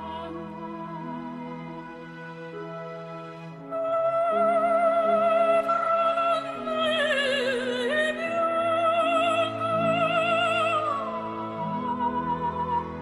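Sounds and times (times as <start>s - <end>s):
operatic singing: 0.0s - 2.4s, 3.6s - 13.0s.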